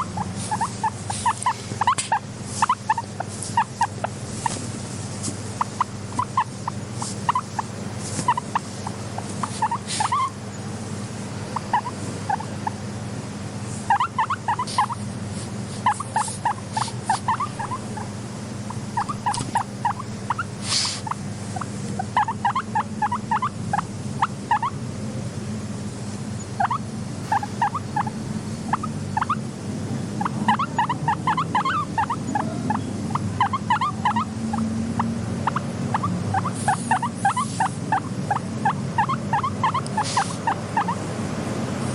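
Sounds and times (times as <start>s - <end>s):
guinea pigs squeaking: 0.0s - 10.7s, 11.5s - 12.9s, 13.7s - 29.5s, 30.1s - 41.1s
steady low hum: 0.0s - 41.9s.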